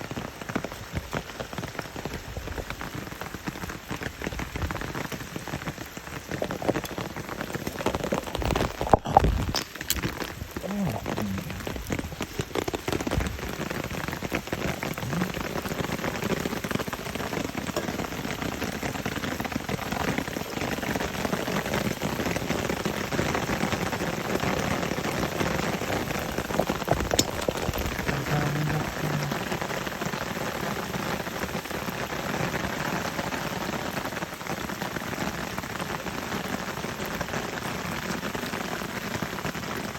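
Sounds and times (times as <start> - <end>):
water splashing and rushing: 0.0 - 32.7.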